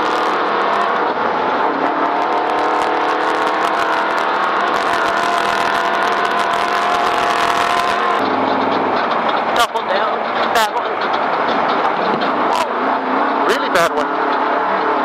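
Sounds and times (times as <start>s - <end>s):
knocks and rattles: 0.0s - 15.0s
race engine at high revs: 0.0s - 15.0s.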